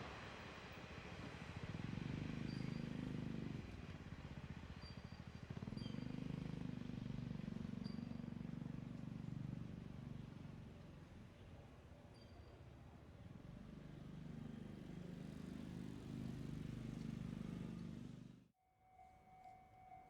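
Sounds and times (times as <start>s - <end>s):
vehicle engine rumble: 1.6s - 18.5s.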